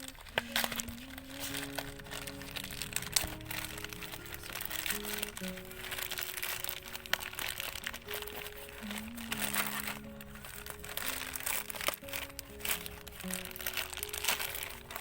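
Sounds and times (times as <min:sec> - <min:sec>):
packaging crinkling and rustling: 0:00.0 - 0:15.0
soft background music: 0:00.0 - 0:15.0.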